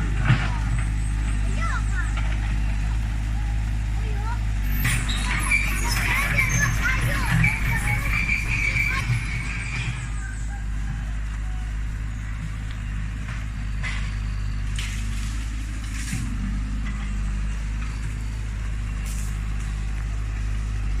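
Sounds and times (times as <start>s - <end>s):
diesel excavator engine running: 0.0s - 21.0s.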